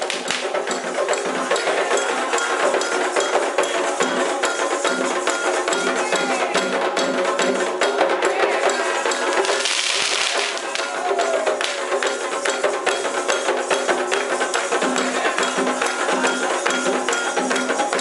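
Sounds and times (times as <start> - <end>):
hand drums: 0.0 - 18.0
struck bell: 0.0 - 18.0.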